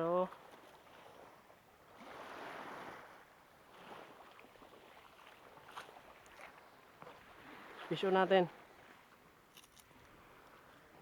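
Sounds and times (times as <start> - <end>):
small waves washing on shore: 0.0 - 11.0.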